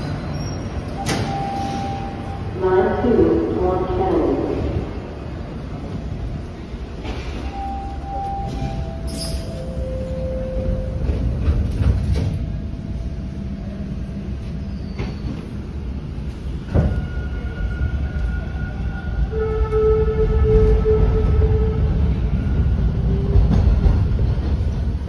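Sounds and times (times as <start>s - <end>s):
subway train wheels rumbling on rail: 0.0s - 25.0s.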